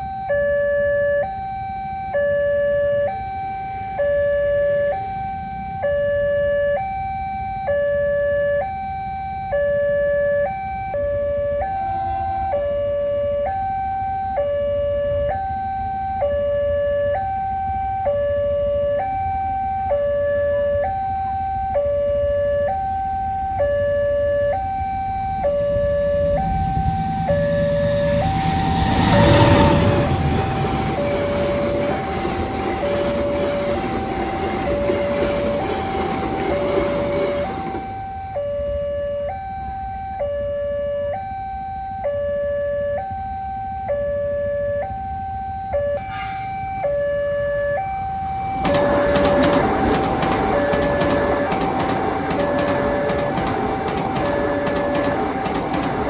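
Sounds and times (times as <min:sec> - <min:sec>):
two-tone crossing alarm: 0:00.0 - 0:56.0
train passing rumble: 0:01.3 - 0:06.0, 0:09.5 - 0:40.4, 0:43.9 - 0:56.0.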